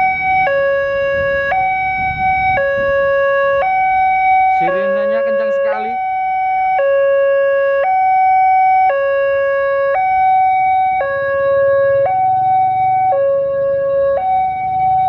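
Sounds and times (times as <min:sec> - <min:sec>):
two-tone level crossing alarm: 0:00.0 - 0:15.0.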